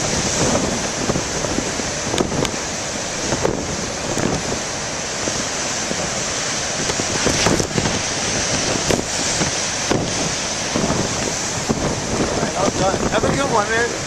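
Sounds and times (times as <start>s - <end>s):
surf breaking on rocks: 0.0s - 14.0s
wind buffeting microphone: 0.0s - 14.0s.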